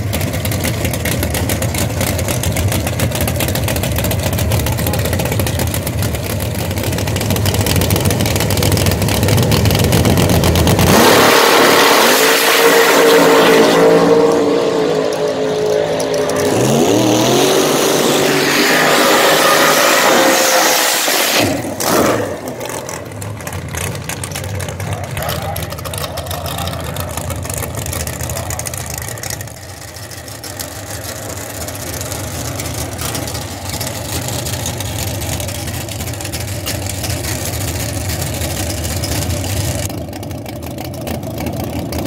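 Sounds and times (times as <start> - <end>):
race car engines idling: 0.0 - 11.0, 14.2 - 18.4, 21.5 - 42.0
race car engine revving: 0.0 - 39.9.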